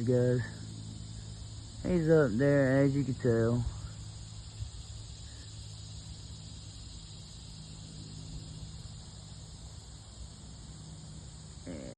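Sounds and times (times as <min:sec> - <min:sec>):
insects trilling: 0:00.0 - 0:11.9.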